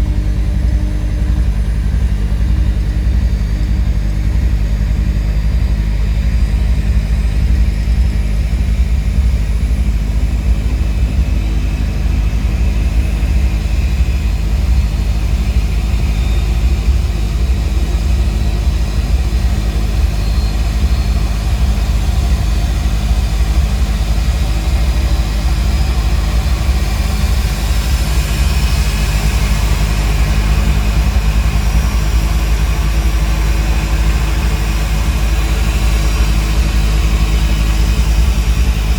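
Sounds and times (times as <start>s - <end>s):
heavy engine rumbling: 0.0s - 38.9s.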